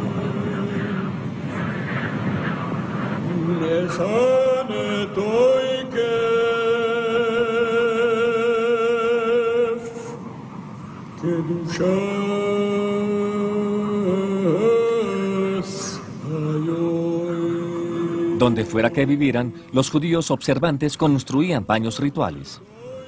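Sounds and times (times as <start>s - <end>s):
man chanting: 0.0s - 1.3s, 2.5s - 10.0s, 11.2s - 23.0s.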